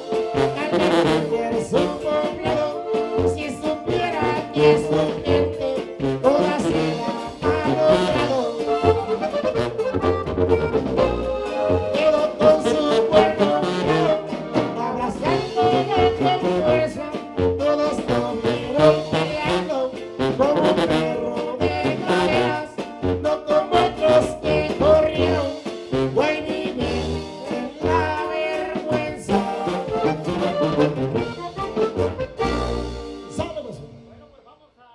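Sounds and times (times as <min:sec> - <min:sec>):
guitar: 0:00.0 - 0:34.2
tuba bass line: 0:00.0 - 0:34.3
accordion lead: 0:00.0 - 0:34.4.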